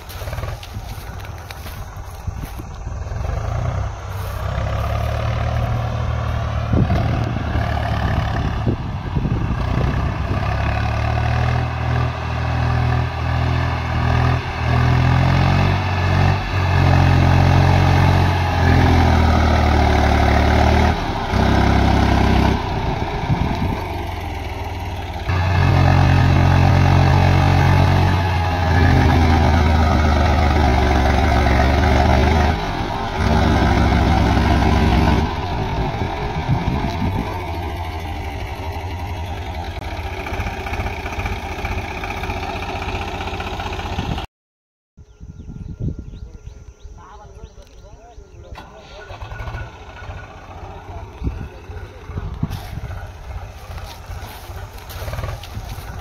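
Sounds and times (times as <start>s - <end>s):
tractor diesel engine working hard: 0.0s - 44.3s, 48.4s - 56.0s.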